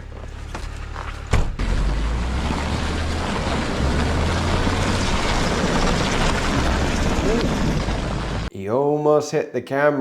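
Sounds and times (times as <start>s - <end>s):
truck engine rumbling: 0.0s - 8.5s.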